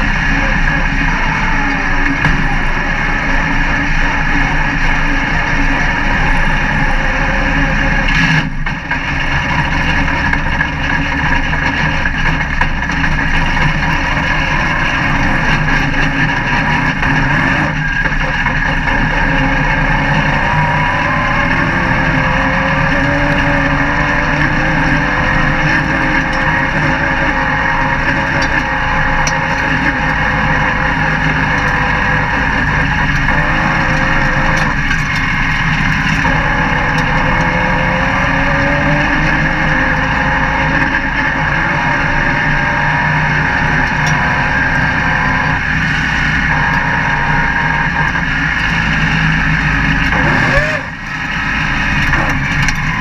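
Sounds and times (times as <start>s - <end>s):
race car engine running hard: 0.0s - 53.0s
wind and road noise: 0.0s - 53.0s.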